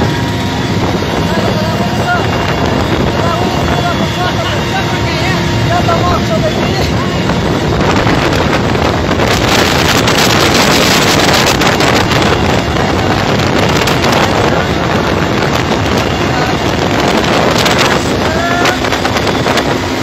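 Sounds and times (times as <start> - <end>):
helicopter engine and rotor noise: 0.0 - 20.0.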